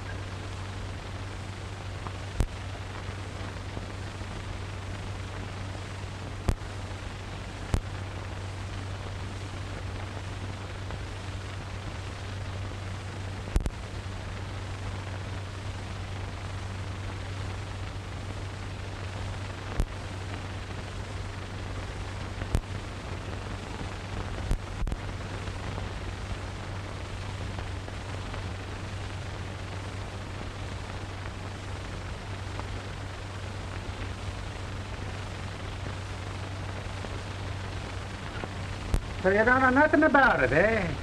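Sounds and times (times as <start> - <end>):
film soundtrack hiss and hum: 0.0 - 41.0.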